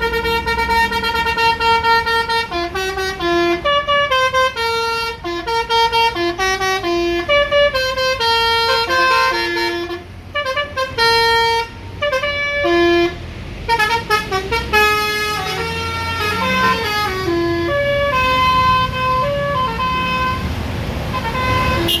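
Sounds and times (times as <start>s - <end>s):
bus horn playing tune: 0.0s - 22.0s
low vehicle rumble: 0.0s - 22.0s.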